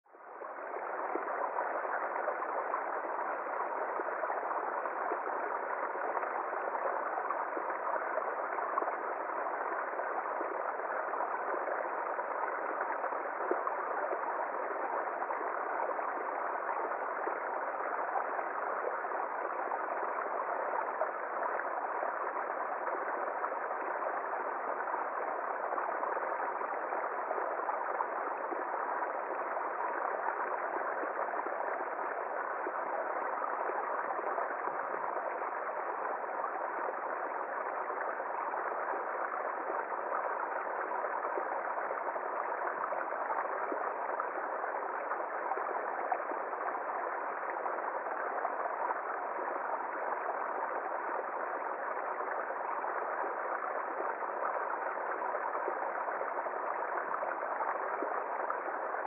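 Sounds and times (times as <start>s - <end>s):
stream running over ledge: 0.3s - 59.0s.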